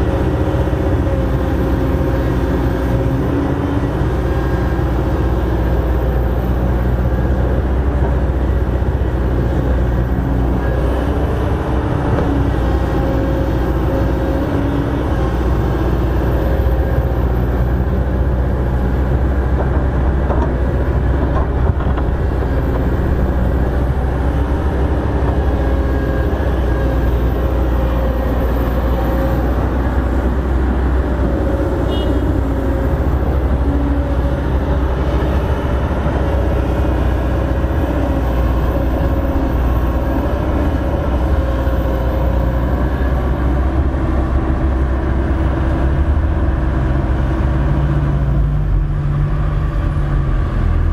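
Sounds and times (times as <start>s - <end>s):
excavator diesel engine droning: 0.0s - 50.9s.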